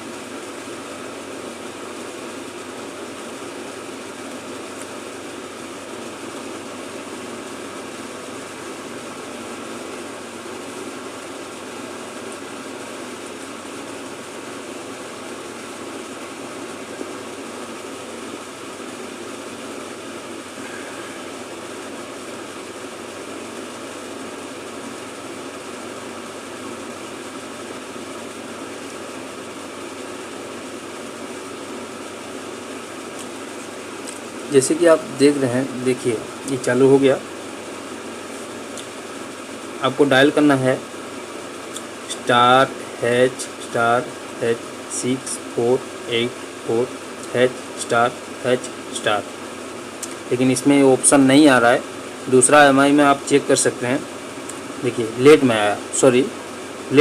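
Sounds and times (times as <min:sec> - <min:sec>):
exhaust fan whooshing: 0:00.0 - 0:57.0.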